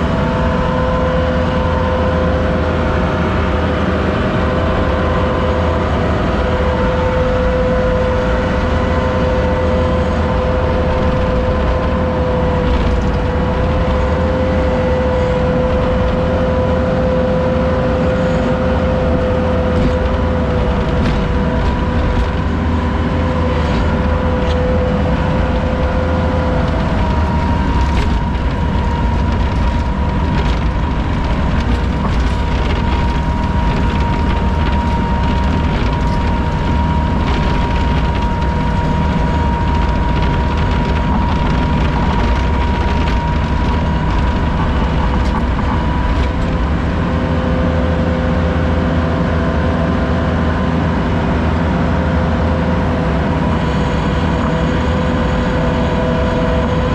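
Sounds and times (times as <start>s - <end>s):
engine whine: 0.0s - 56.9s
vehicle engine rumbling: 0.0s - 56.9s.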